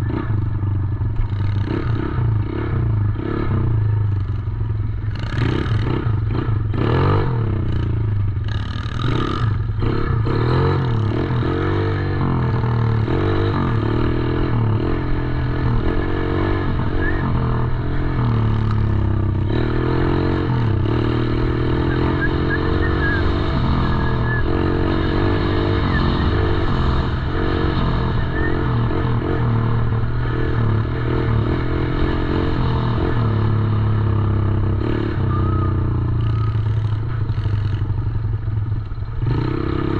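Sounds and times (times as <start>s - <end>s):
dirt bike engine revving: 5.1s - 37.9s.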